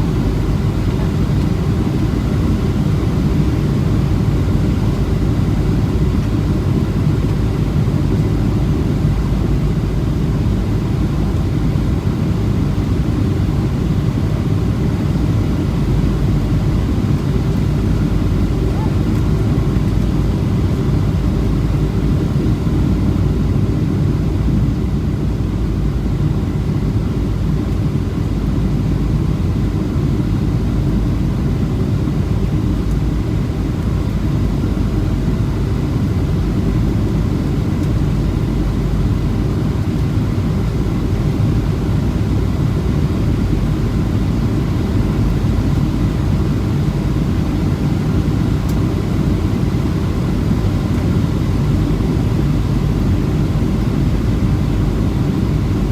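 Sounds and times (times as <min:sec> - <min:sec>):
aircraft cabin engine rumble: 0:00.0 - 0:55.9
faint steady whines: 0:00.0 - 0:55.9.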